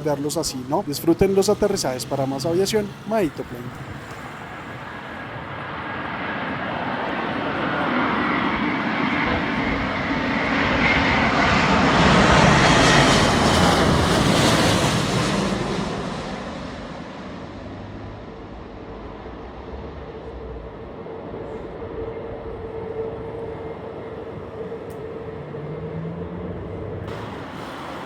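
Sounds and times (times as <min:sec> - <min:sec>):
jet airliner passing: 0:00.0 - 0:28.0.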